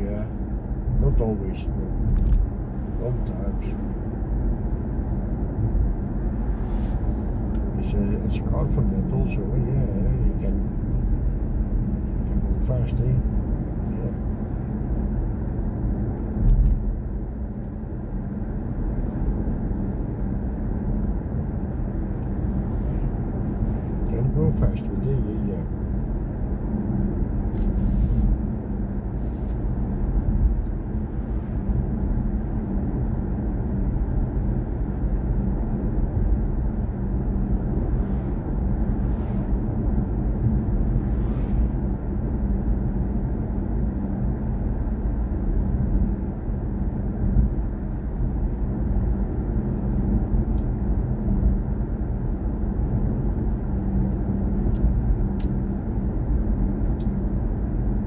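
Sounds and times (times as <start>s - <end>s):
road and tyre rumble in car: 0.0s - 58.0s.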